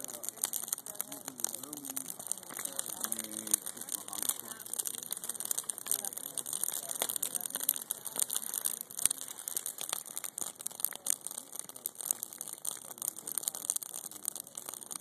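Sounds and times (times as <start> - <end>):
tree crackling in fire: 0.0 - 15.0.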